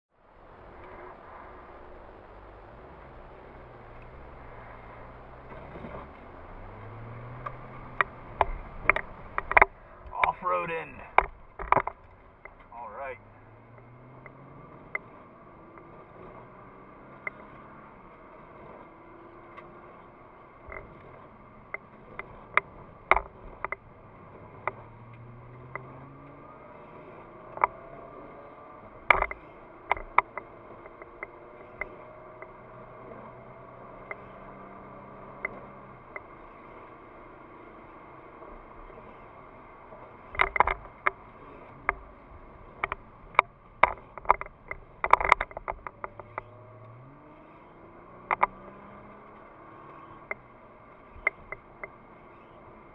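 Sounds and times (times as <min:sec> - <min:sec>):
car engine from inside cabin: 0:00.2 - 0:52.9
sharp clicks and knocks: 0:05.4 - 0:13.1, 0:13.7 - 0:17.7, 0:18.6 - 0:36.8, 0:38.5 - 0:52.8.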